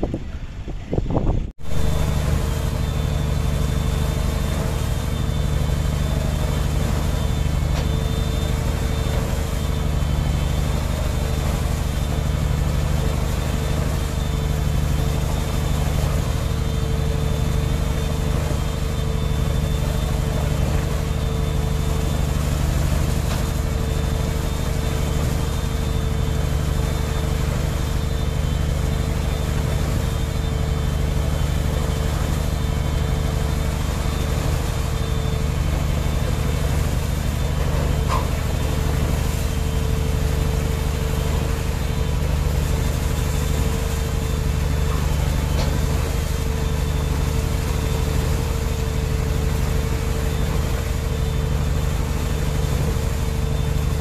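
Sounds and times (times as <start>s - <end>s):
engine drone: 0.0s - 54.0s.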